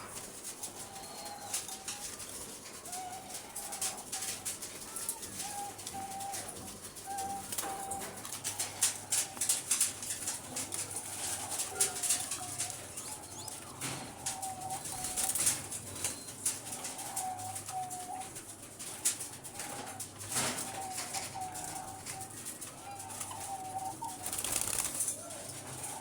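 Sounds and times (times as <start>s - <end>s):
doves cooing: 0.0s - 26.0s
wing flapping: 0.1s - 26.0s.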